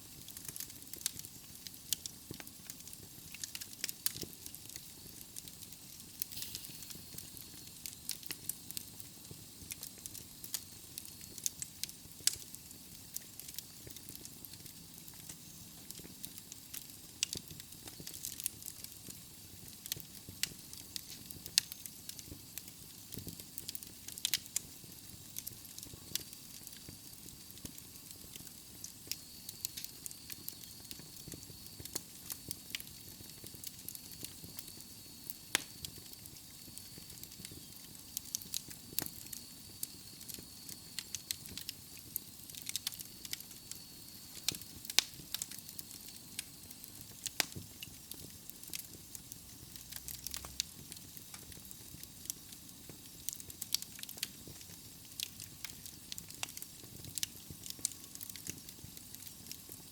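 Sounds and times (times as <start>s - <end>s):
logs burning in a fireplace: 0.0s - 59.9s
wood crackling and popping: 0.1s - 59.9s.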